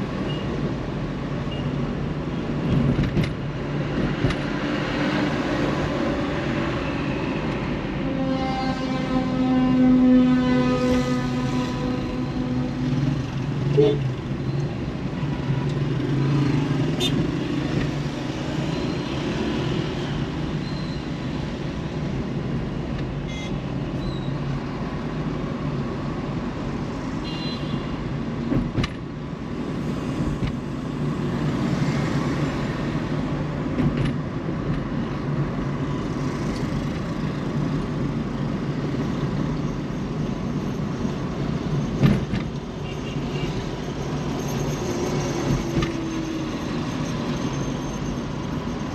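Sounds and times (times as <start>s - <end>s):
car engine and road noise: 0.0s - 48.9s
surrounding traffic: 0.0s - 48.9s.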